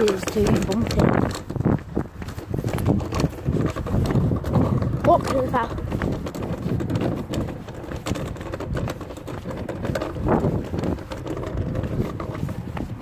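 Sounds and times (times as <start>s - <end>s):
kick scooter rattling: 0.0s - 13.0s.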